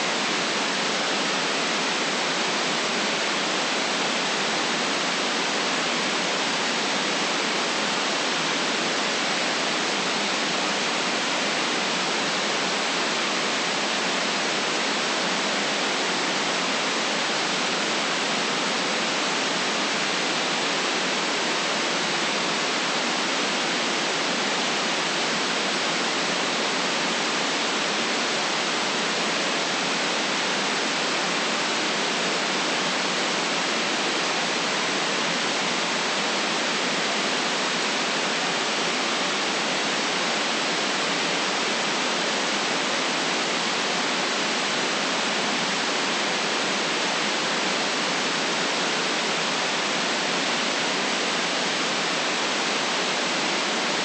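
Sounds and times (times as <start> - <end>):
steady white noise hiss: 0.0 - 54.0.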